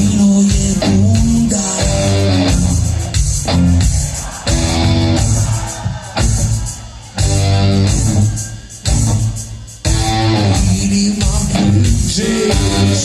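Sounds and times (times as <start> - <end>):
heavy bass: 0.0 - 13.0.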